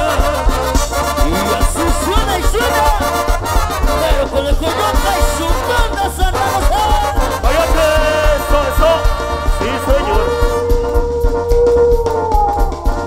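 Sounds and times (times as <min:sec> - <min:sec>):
heavy bass beat: 0:00.0 - 0:13.0
live band music: 0:00.0 - 0:13.0.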